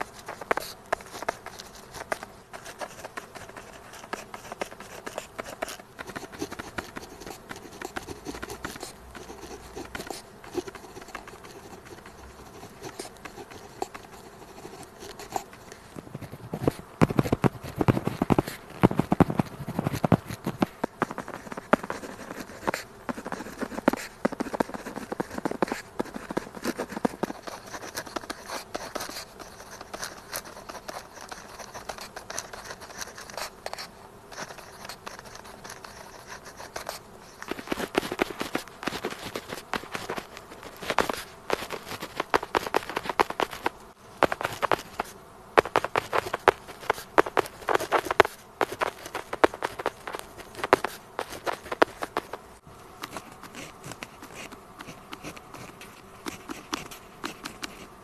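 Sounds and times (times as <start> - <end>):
pen scratching on paper: 0.0 - 52.4, 53.0 - 57.9.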